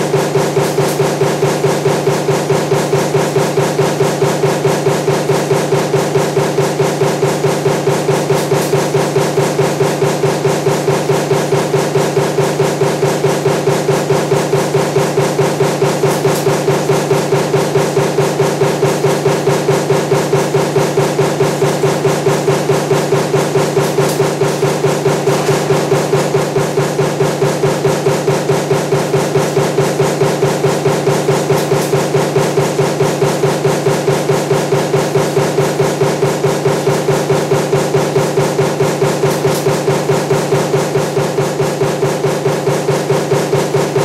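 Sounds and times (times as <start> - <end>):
machine hum: 0.0 - 44.0
power press stamping: 0.0 - 44.0.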